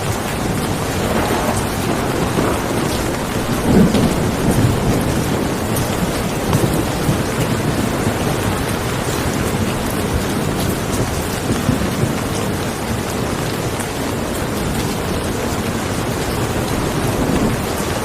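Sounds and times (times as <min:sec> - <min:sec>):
heavy rain hiss: 0:00.0 - 0:18.0
raindrops ticking: 0:00.0 - 0:18.0.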